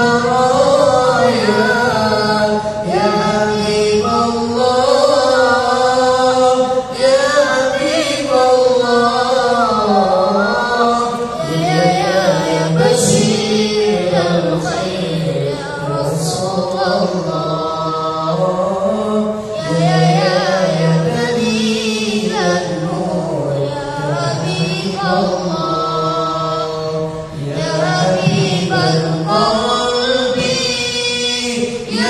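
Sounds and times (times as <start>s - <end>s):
boy singing unaccompanied: 0.0s - 32.0s.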